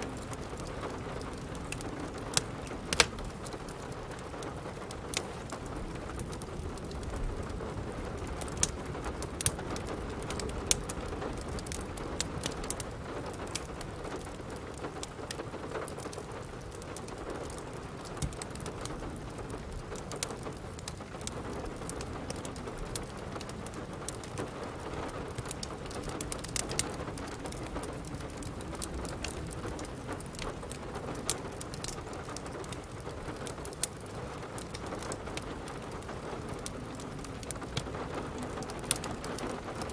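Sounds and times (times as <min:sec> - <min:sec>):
steady rain hiss: 0:00.0 - 0:39.9
wood fire crackling: 0:00.0 - 0:39.9.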